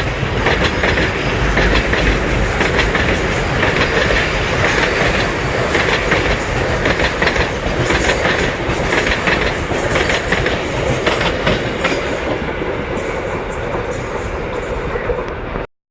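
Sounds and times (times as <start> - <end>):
wheels clattering over rail joints: 0.0 - 15.1
freight train rushing past: 0.0 - 15.7.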